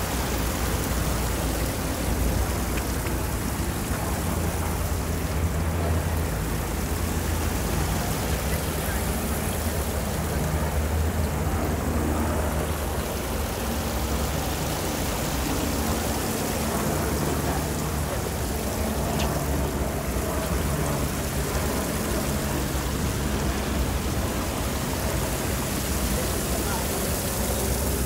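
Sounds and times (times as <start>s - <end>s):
traffic rumble: 0.0s - 28.0s.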